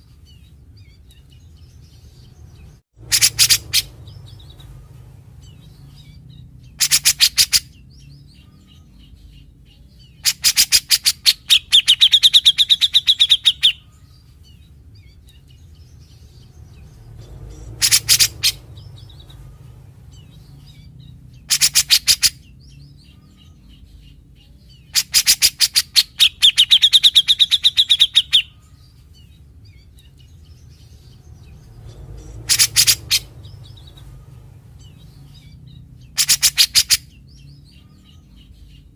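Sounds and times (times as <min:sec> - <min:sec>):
bird singing rattling notes: 0:00.8 - 0:13.9, 0:14.5 - 0:38.9.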